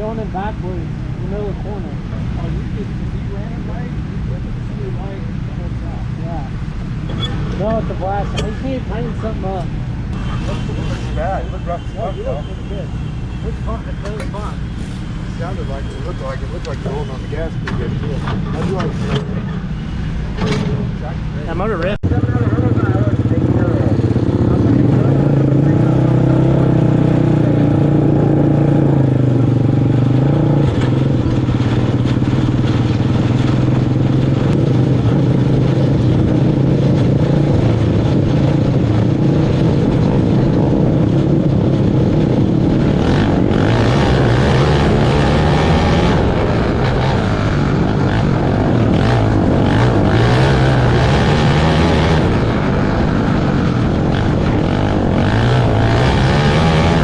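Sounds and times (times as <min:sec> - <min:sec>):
kart engines droning: 0:00.0 - 0:57.0.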